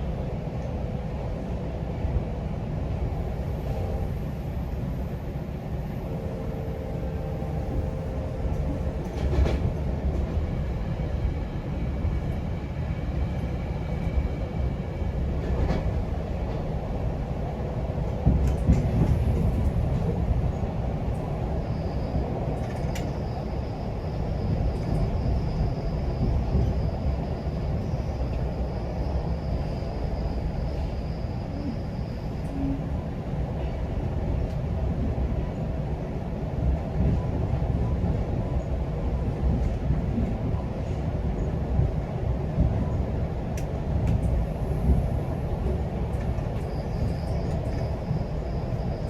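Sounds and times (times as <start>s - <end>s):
train wheels rumbling on track: 0.0s - 49.0s.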